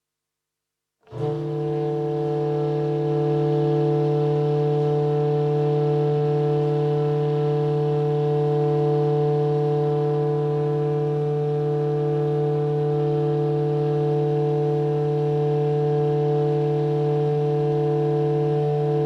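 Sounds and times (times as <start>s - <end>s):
clarinet and double bass drone: 1.1s - 19.0s.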